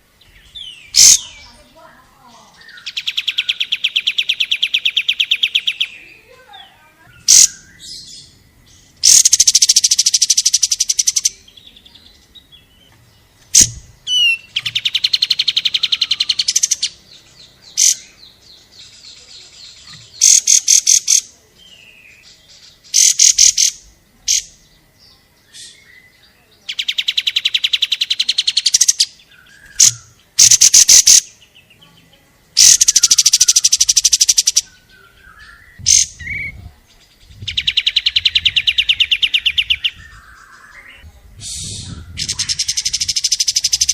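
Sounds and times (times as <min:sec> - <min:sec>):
bird trilling: 0:00.0 - 0:24.7, 0:25.5 - 0:31.6, 0:32.6 - 0:43.9.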